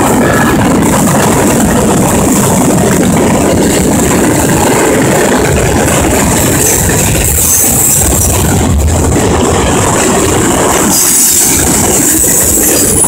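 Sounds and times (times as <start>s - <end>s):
diesel locomotive engines running: 0.0s - 13.0s.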